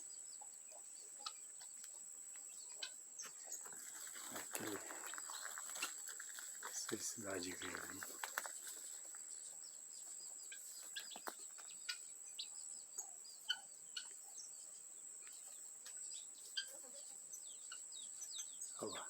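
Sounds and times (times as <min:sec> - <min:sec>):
chickens clucking: 0:00.0 - 0:19.0
songbirds chirping: 0:00.0 - 0:19.0.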